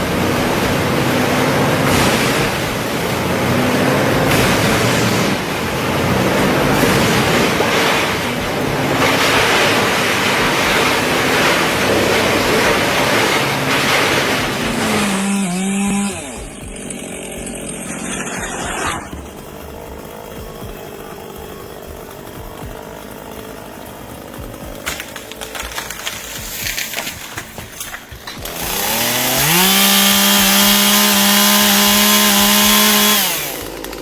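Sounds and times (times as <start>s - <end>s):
chainsaw running: 0.0s - 34.0s.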